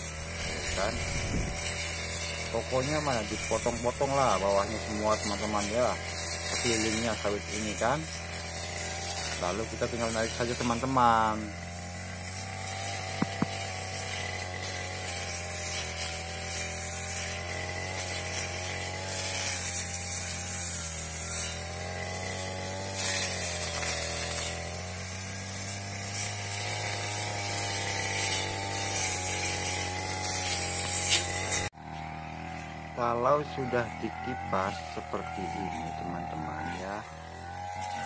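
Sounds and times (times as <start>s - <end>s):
brush cutter engine running: 0.0s - 38.0s.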